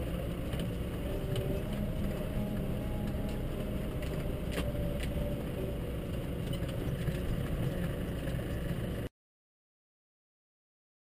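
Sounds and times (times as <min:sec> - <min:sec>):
tractor diesel engine running: 0:00.0 - 0:09.1.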